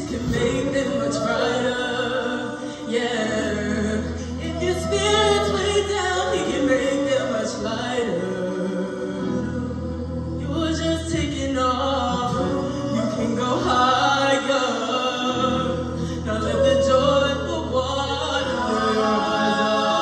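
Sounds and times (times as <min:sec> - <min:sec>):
choir singing with instruments: 0:00.0 - 0:20.0.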